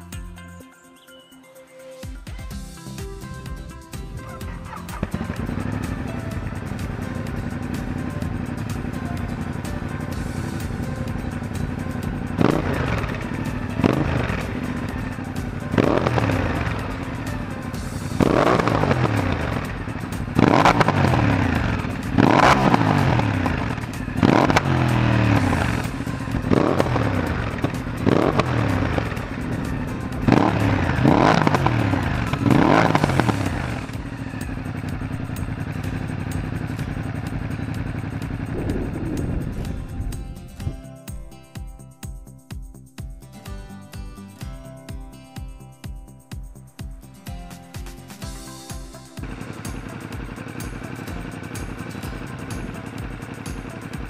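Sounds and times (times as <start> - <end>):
motorcycle engine revving: 2.5 - 41.4, 47.9 - 54.0.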